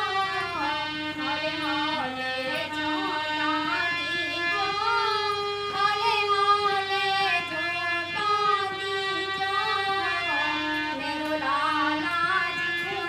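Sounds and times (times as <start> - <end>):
keyboard held chords: 0.0 - 13.0
woman singing devotional song: 0.0 - 13.0.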